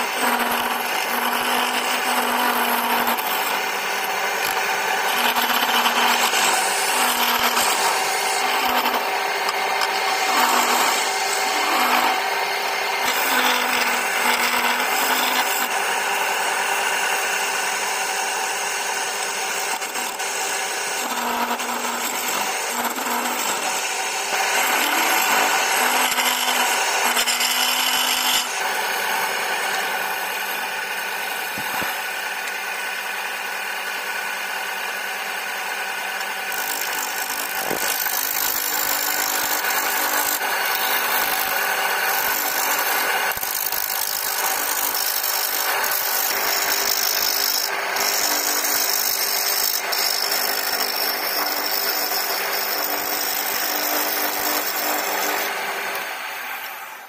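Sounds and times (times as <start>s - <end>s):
chisel scraping spinning wood: 0.0s - 57.0s
lathe motor hum: 0.0s - 57.0s.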